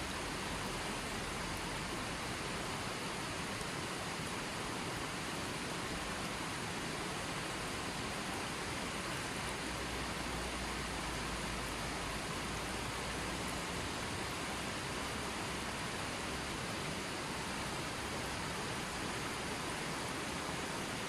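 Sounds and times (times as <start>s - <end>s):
running water: 0.0s - 21.0s.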